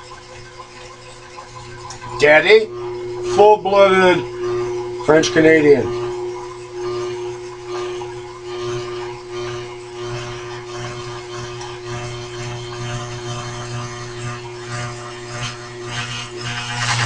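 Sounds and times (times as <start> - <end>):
drill bit cutting metal: 0.0 - 17.0
machine spindle humming: 0.0 - 17.0.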